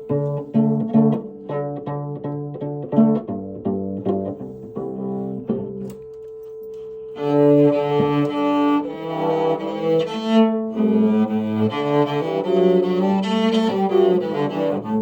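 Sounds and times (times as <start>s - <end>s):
cello bowed notes: 0.0s - 15.0s
held cello tone: 0.0s - 15.0s.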